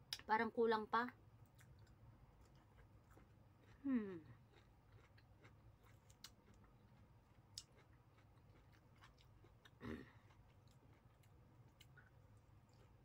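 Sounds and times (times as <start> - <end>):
person chewing softly: 1.4 - 13.0.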